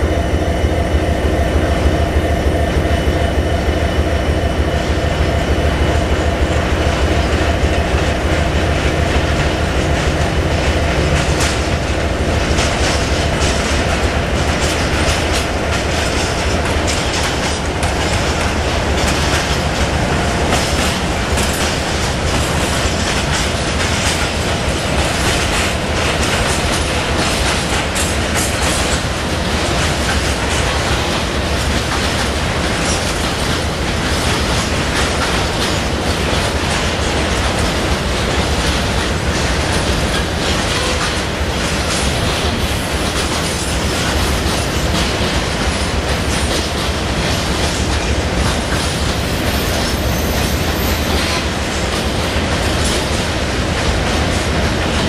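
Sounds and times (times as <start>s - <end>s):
train wheels clattering over rail joints: 3.4s - 55.0s.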